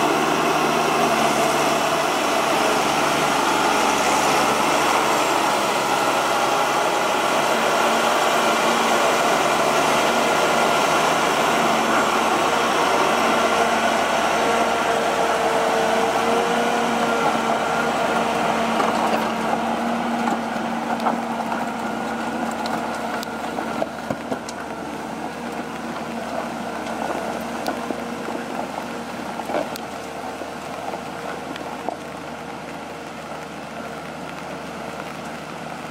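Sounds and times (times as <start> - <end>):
diesel engine whining: 0.0 - 35.9.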